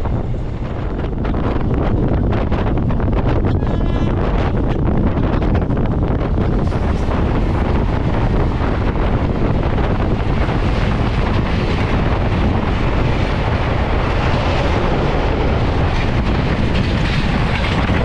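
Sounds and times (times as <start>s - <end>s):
train running noise: 0.0s - 18.0s
wind rushing: 0.0s - 18.0s.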